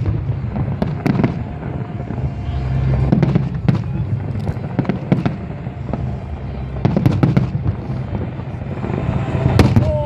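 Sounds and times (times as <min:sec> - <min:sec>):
fireworks bangs and crackles: 0:00.0 - 0:10.0
low rumble of bursts: 0:00.0 - 0:10.0.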